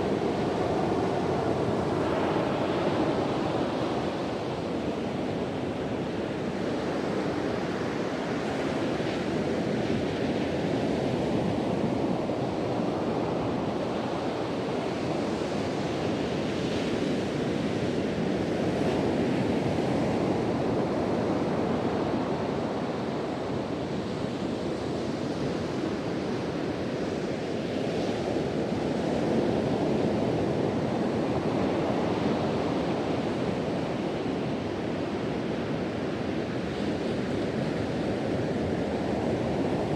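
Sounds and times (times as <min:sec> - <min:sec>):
ocean surf breaking on beach: 0:00.0 - 0:39.9
wind: 0:00.0 - 0:39.9.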